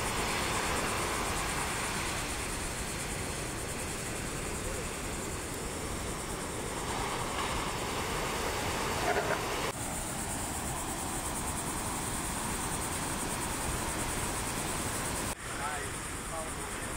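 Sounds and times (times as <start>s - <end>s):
ocean surf breaking: 0.0s - 16.9s.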